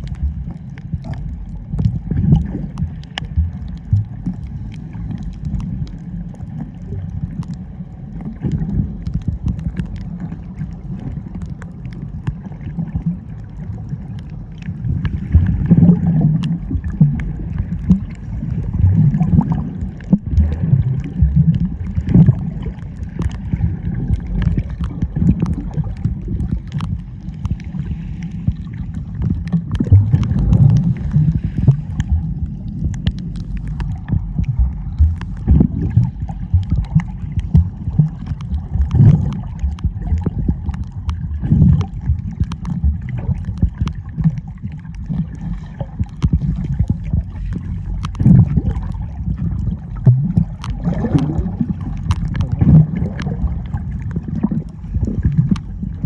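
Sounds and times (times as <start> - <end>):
low surging rumble: 0.0 - 56.0
sea water sloshing and gurgling: 0.0 - 56.0.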